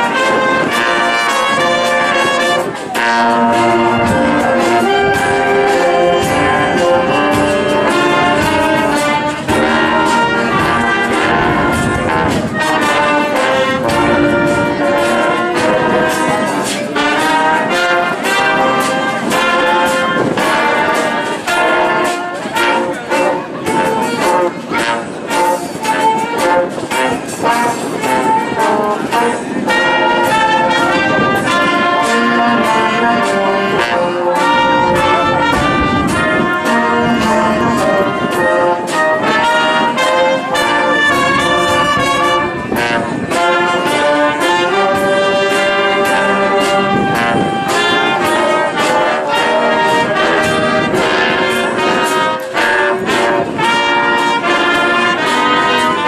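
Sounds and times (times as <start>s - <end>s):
brass melody: 0.0s - 56.0s
percussion beat: 0.0s - 56.0s.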